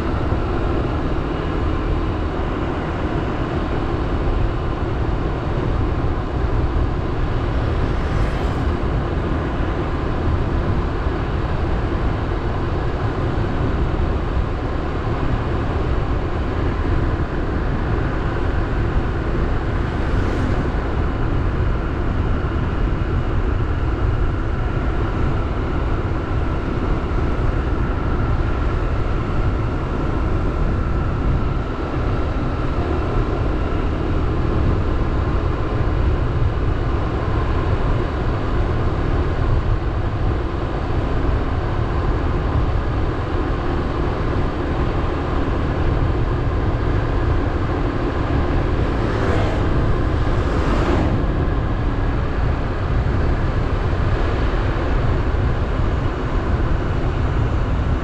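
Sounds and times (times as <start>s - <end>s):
motorbike engine drone: 0.0s - 58.0s
road and air noise: 0.0s - 58.0s.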